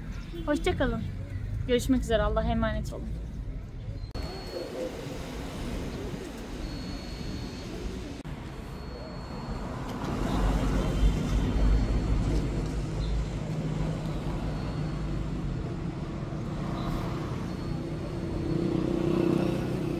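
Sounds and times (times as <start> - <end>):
traffic rumble: 0.0 - 19.9.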